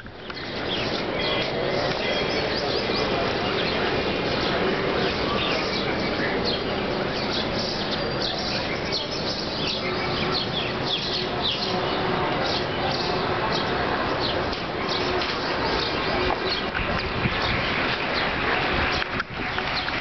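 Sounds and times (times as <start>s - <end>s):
outdoor background noise: 0.0s - 20.0s
small birds chirping: 0.0s - 20.0s.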